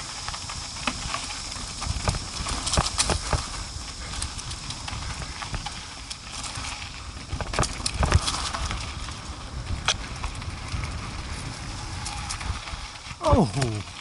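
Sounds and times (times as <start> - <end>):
atv engine rumbling: 0.0 - 14.0.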